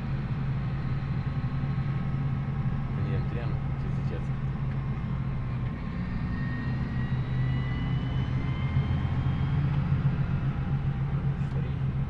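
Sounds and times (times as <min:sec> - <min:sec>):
faint rising whine: 0:00.0 - 0:12.0
tractor diesel engine running: 0:00.0 - 0:12.0.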